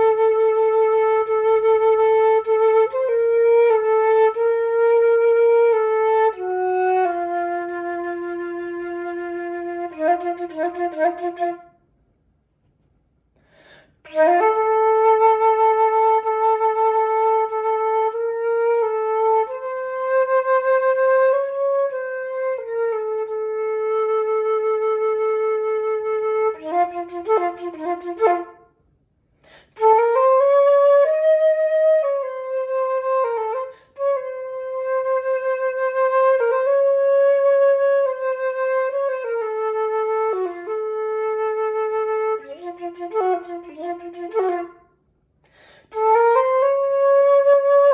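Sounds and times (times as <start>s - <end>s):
flute playing slow music: 0.0s - 11.8s, 14.0s - 28.8s, 29.7s - 45.0s, 45.9s - 47.9s.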